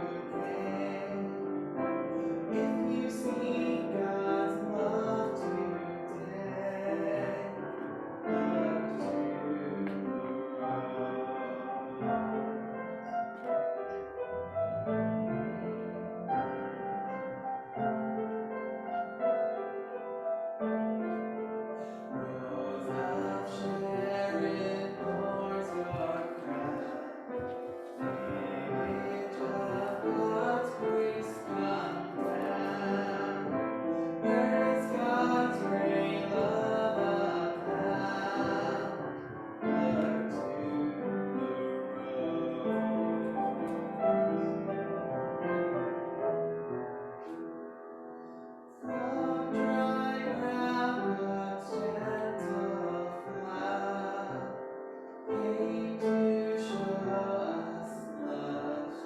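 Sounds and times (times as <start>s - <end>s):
classical piano piece: 0.0s - 59.0s.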